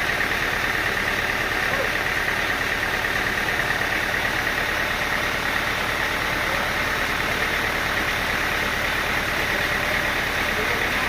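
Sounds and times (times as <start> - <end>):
sawmill engine idling: 0.0 - 11.0.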